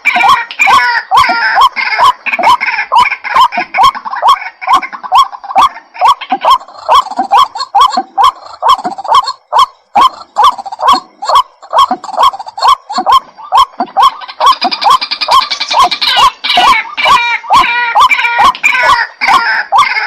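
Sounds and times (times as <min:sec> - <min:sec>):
bird chattering: 0:00.0 - 0:20.0
bird croaking calls: 0:00.0 - 0:20.0.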